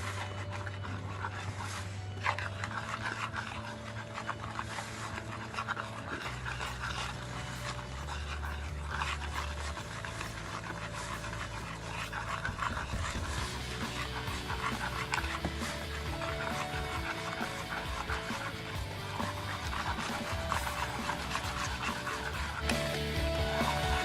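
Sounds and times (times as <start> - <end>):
batter stirred in a bowl: 0.0 - 24.0.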